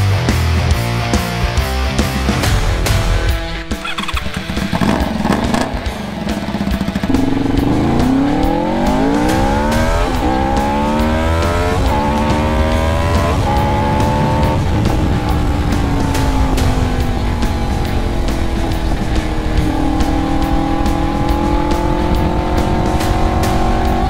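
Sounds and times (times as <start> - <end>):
motorcycle engine accelerating: 2.4 - 24.0.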